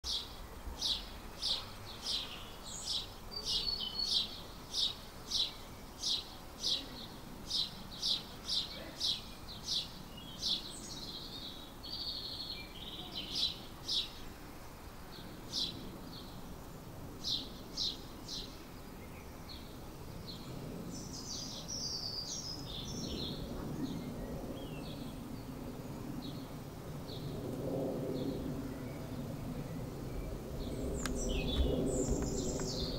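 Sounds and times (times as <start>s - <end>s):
low background noise: 0.0s - 32.9s.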